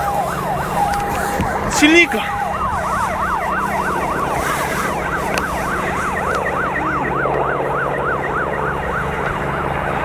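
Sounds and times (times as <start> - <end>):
siren on yelp: 0.0 - 10.0.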